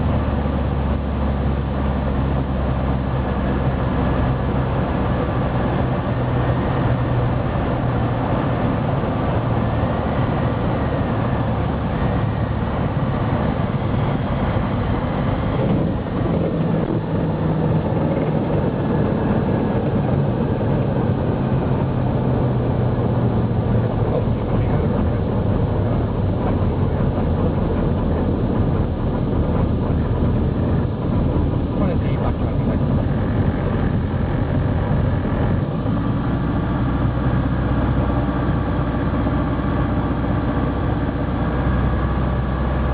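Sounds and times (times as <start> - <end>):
light aircraft engine running: 0.0 - 42.9
wind noise: 0.0 - 42.9.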